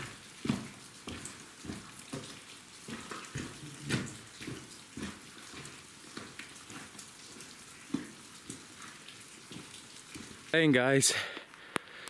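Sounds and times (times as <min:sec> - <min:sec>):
rainwater dripping: 0:00.0 - 0:12.0.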